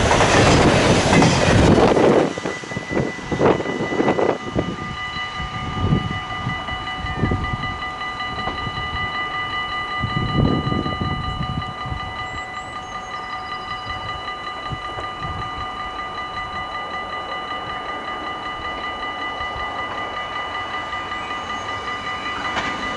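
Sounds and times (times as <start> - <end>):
train passing: 0.0 - 22.9
level-crossing bell ringing: 1.6 - 22.9.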